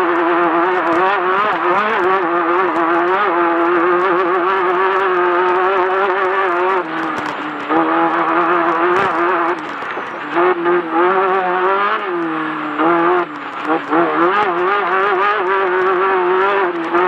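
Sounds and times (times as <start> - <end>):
race car engine revving high: 0.0 - 17.0.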